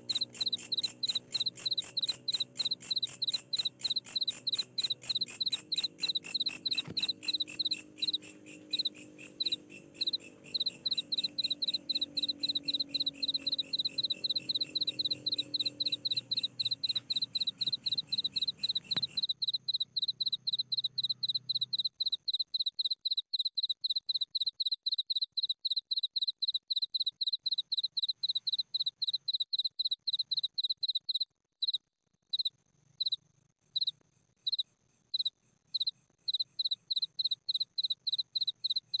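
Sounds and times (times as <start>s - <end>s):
cricket chirping: 0.0s - 33.2s, 33.8s - 39.0s.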